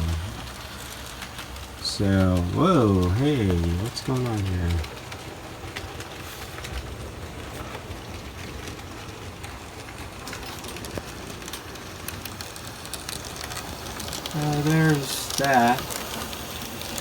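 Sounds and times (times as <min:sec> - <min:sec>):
model train rolling whir: 0:00.0 - 0:17.0
wheels clicking over rail joints: 0:00.0 - 0:17.0.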